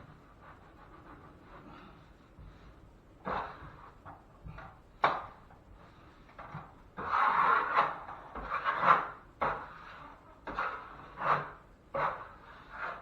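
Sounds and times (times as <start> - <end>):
drywall knife scraping compound: 0.0 - 13.0.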